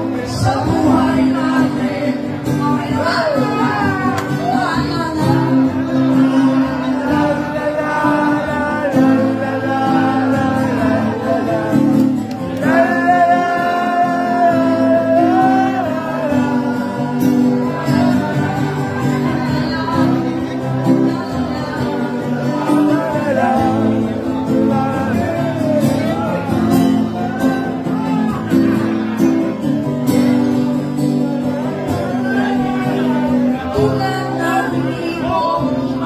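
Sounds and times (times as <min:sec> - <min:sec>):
woman singing: 0:00.0 - 0:27.0, 0:33.6 - 0:36.0
rock band with acoustic guitar: 0:00.0 - 0:36.0.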